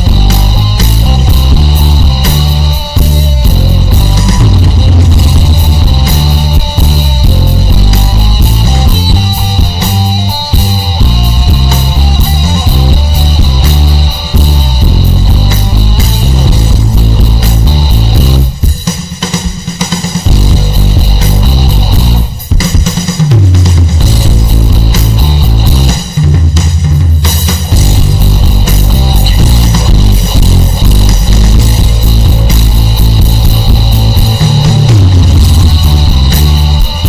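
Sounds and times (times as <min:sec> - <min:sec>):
heavy boosted bass: 0:00.0 - 0:18.8, 0:20.3 - 0:22.4, 0:23.7 - 0:37.0
electric guitar: 0:00.0 - 0:37.0.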